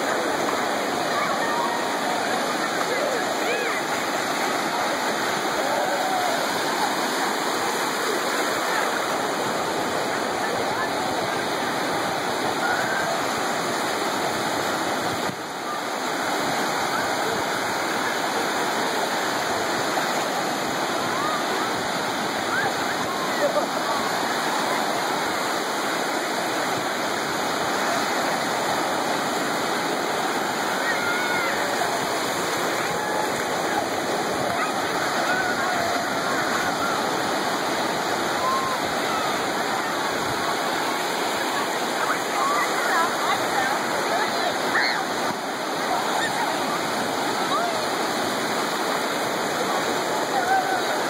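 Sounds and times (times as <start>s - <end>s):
faint voices: 0.0s - 51.0s
ocean surf breaking: 0.0s - 51.0s.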